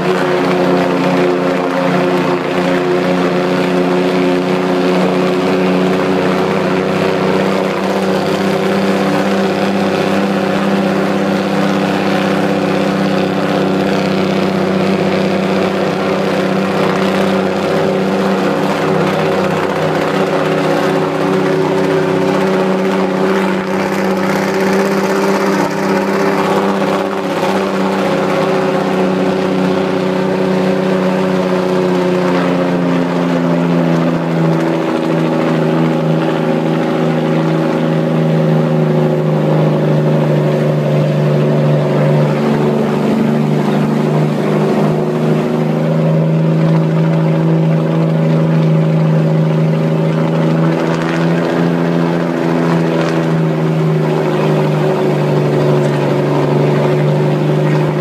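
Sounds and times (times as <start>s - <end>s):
vehicle engine droning: 0.0s - 58.0s.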